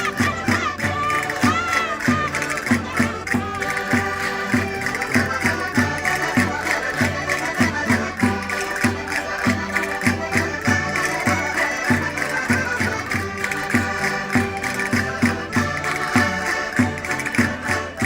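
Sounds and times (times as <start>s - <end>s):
button accordions playing folk music: 0.0s - 18.0s.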